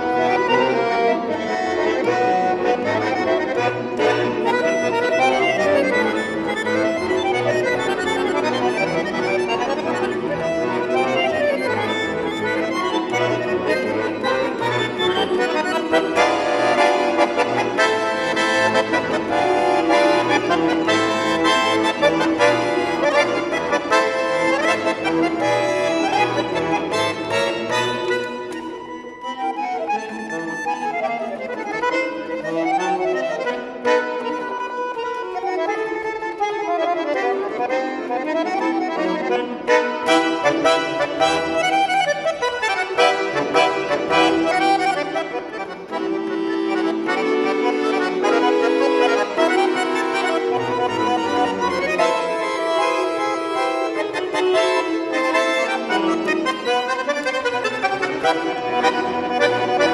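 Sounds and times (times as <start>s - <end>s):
button accordion playing: 0.0s - 59.9s.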